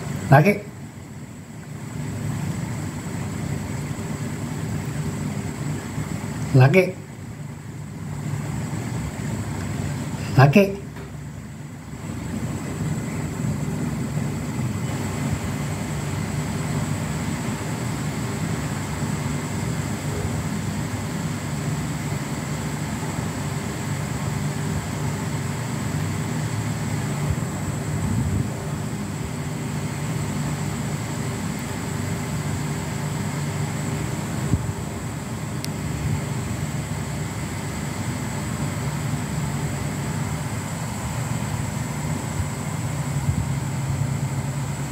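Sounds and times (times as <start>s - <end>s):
low mechanical hum: 0.0s - 44.9s.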